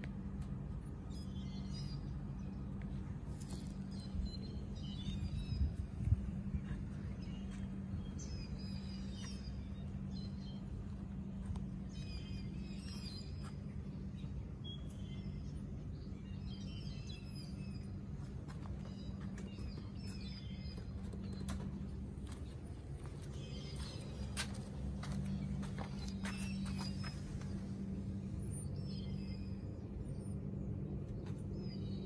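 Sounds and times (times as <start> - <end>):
air conditioner units humming: 0.0 - 32.0
small birds chirping: 0.9 - 32.0.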